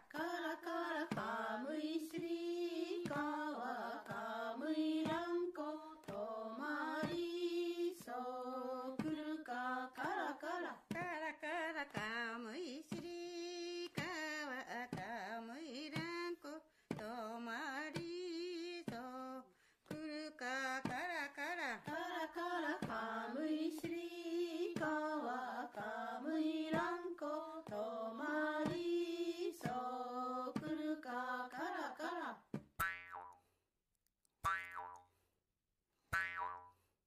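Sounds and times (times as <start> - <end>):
person singing with vibrato: 0.0 - 32.4.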